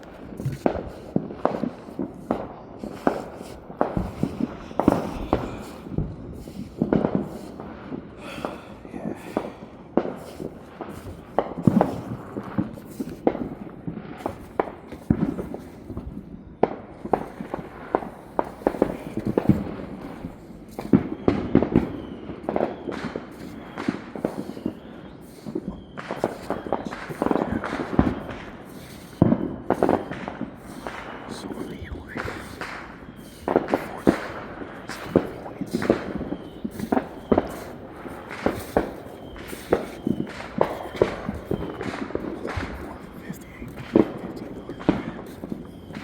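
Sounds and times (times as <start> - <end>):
fireworks bangs and pops: 0.0 - 46.0.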